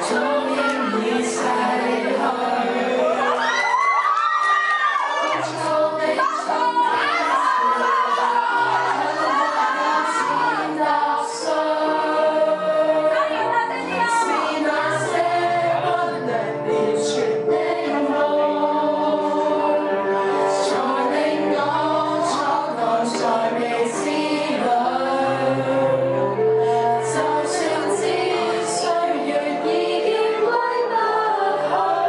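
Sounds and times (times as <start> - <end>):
girls singing into microphone: 0.0 - 32.0.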